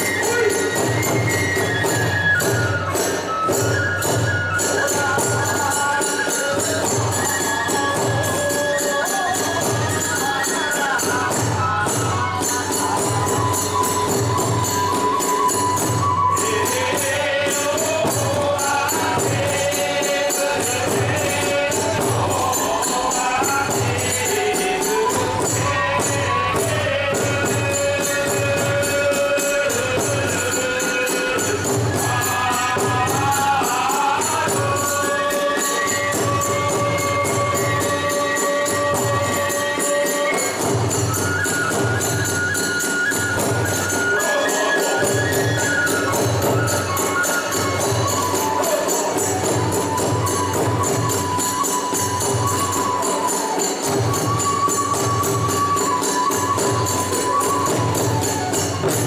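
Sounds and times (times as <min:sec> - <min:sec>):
bamboo flute melody: 0:00.0 - 0:59.0
small hand cymbals clashing: 0:00.0 - 0:59.0.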